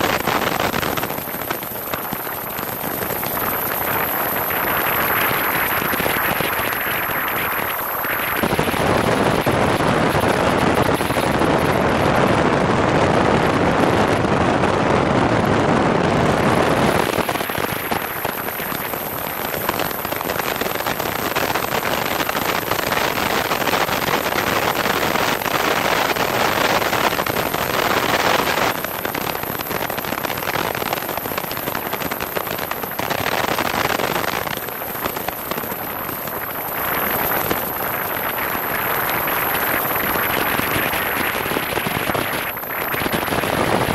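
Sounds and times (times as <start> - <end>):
wind buffeting microphone: 0.0 - 24.2, 27.8 - 43.9
light aircraft engine: 0.0 - 43.9.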